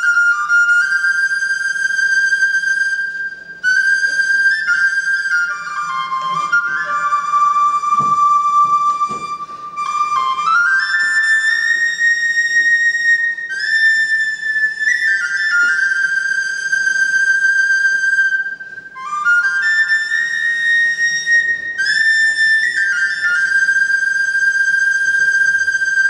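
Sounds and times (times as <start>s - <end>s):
tin whistle melody: 0.0s - 26.0s.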